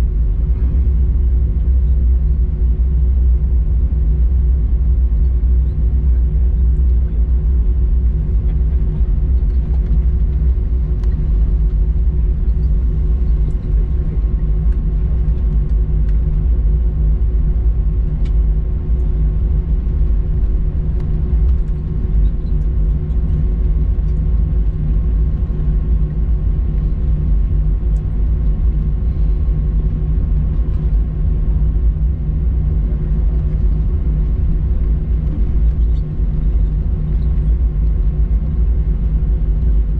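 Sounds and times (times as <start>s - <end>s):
airplane cabin rumble: 0.0s - 39.9s
constant hum: 0.0s - 39.9s.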